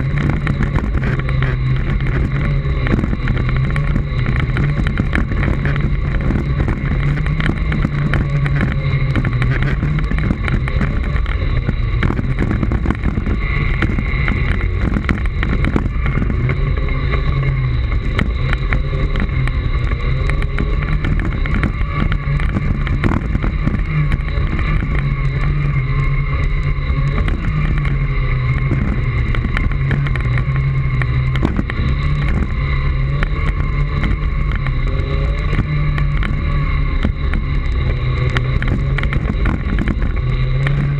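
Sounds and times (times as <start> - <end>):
electric motor whine and hum: 0.0 - 40.9.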